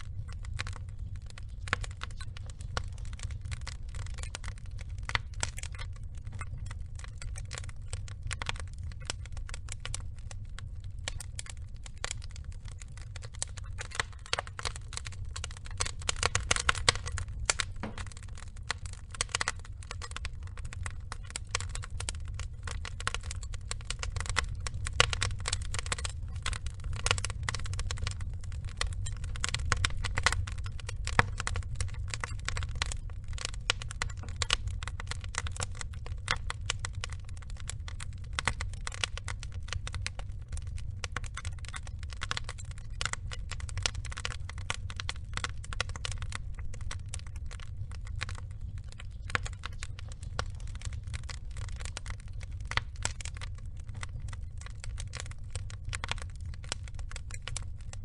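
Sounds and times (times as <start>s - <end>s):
low rumble of fire: 0.0s - 58.0s
wood logs crackling and popping: 0.0s - 58.0s.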